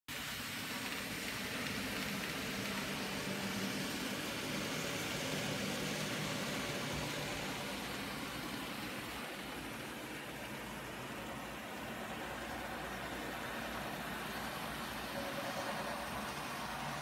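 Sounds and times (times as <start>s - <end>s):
model train motors whirring: 0.1s - 17.0s.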